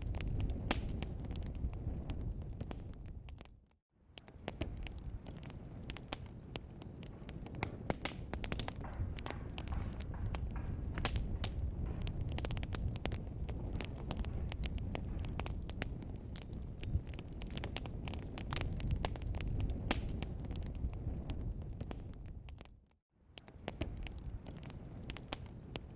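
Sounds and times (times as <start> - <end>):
low rumble of flames: 0.0 - 25.9
wood fire popping: 0.0 - 25.9.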